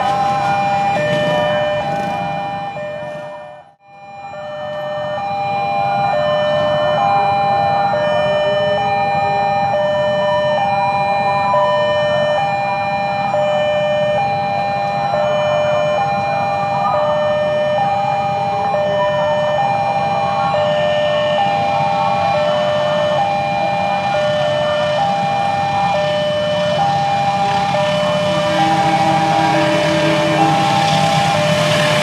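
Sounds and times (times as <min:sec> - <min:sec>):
level-crossing alarm alternating tones: 0:00.0 - 0:32.0.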